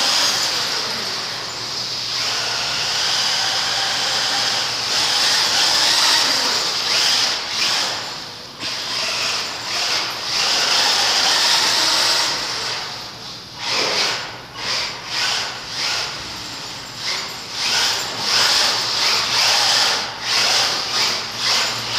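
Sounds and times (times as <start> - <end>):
toy car motor whining: 0.0 - 1.5, 2.2 - 12.9, 13.6 - 16.3, 17.0 - 21.9.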